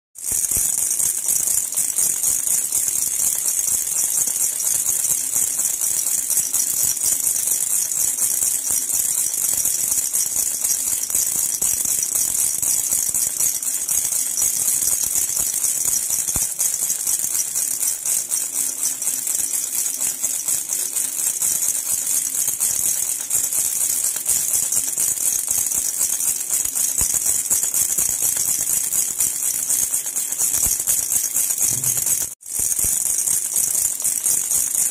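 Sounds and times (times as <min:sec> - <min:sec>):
baby rattle jingling: 0:00.2 - 0:34.9.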